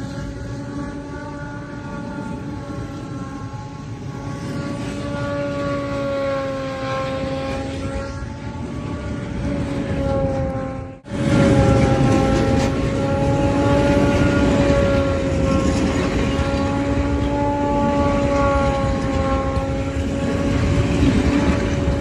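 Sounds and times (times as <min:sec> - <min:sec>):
train wheels rumbling on rails: 0:00.0 - 0:22.0
wavering pitched drone: 0:00.0 - 0:22.0.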